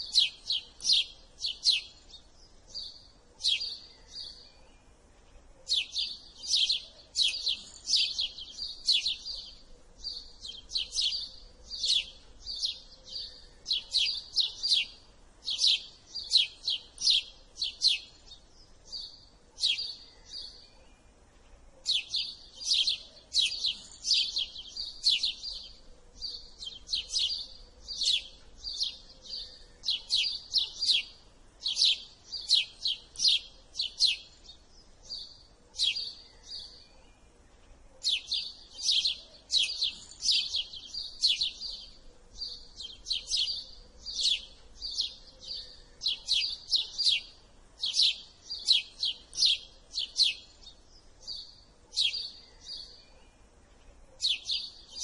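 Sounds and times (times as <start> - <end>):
sparrow chirping: 0.0 - 55.0.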